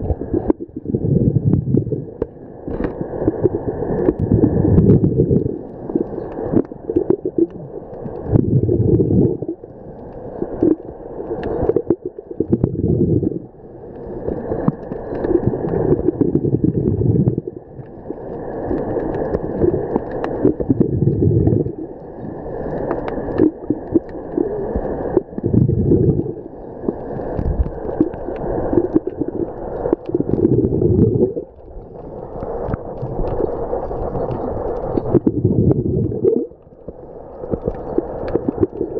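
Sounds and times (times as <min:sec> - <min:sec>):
underwater exhaled bubbles gurgling: 0:00.0 - 0:38.9.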